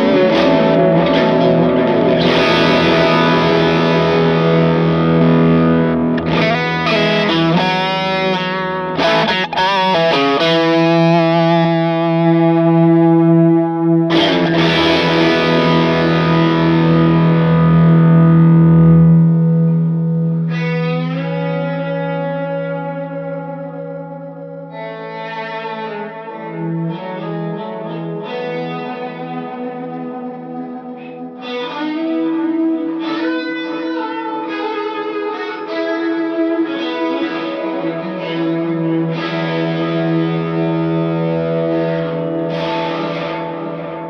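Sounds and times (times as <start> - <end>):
overdriven electric guitar chords: 0.0 - 44.0.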